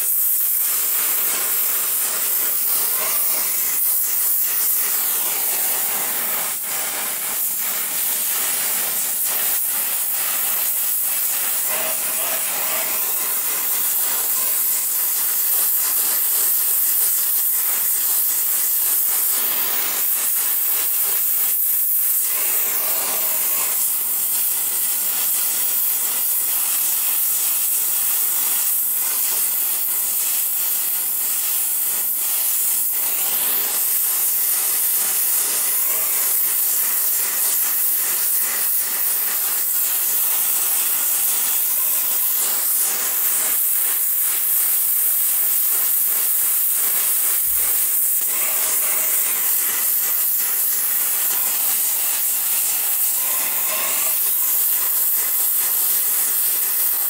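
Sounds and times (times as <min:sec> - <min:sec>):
gas torch flame hissing: 0:00.0 - 0:57.0.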